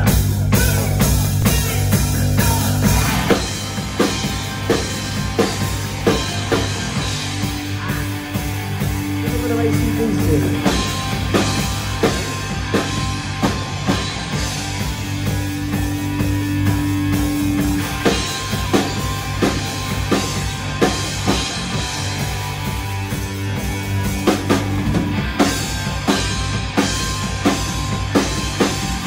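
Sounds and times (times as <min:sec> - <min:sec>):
rock band playing: 0:00.0 - 0:29.0
steady drum beat: 0:00.0 - 0:29.0.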